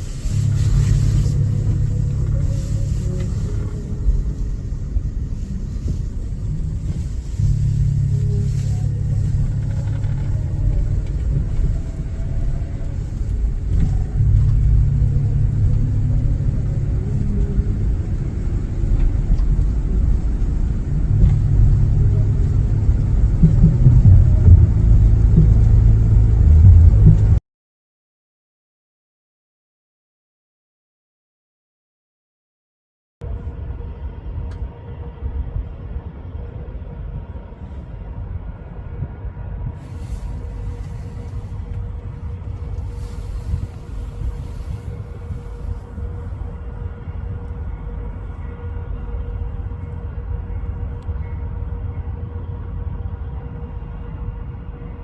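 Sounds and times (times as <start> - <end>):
engine rumble: 0.0 - 27.4, 33.2 - 55.0.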